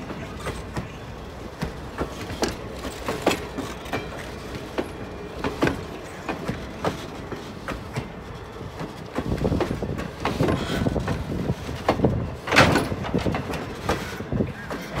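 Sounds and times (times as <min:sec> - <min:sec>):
train wheels clicking on rails: 0:00.0 - 0:15.0.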